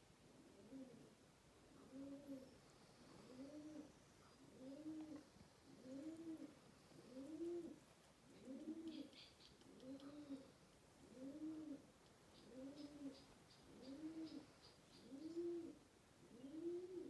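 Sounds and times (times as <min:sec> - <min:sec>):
pigeon cooing: 0:00.4 - 0:17.0.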